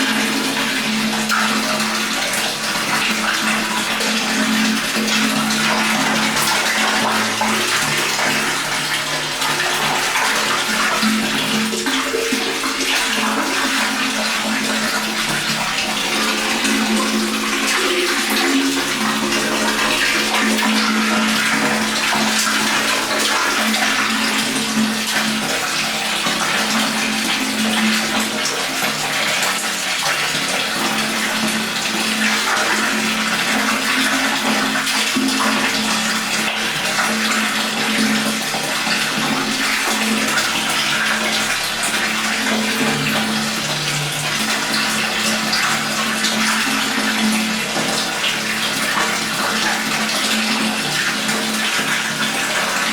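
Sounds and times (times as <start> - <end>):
water pouring into a tank: 0.0 - 52.9.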